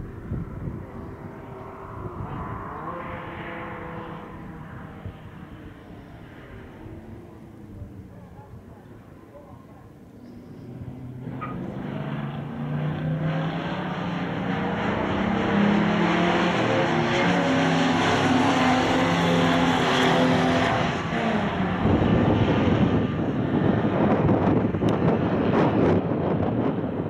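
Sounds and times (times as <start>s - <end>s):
car engine at full throttle: 0.0s - 27.0s.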